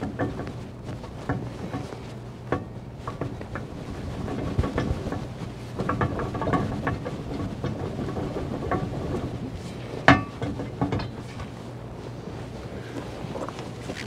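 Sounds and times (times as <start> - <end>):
gritty scraping of propeller: 0.0 - 14.0
steady low hum: 0.0 - 14.0.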